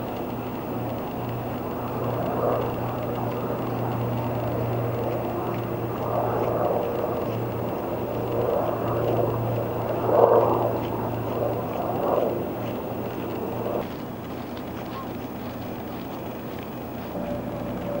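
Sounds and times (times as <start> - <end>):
low engine drone: 0.0 - 18.0
swells of noise: 0.0 - 18.0.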